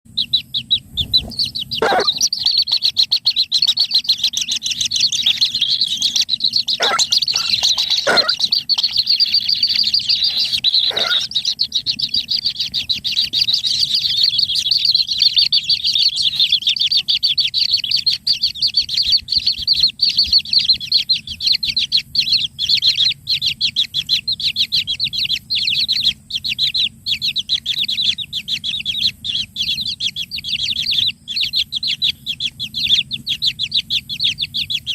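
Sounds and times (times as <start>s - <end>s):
bird chirping: 0.1s - 34.9s
harsh bird calls: 0.1s - 34.9s.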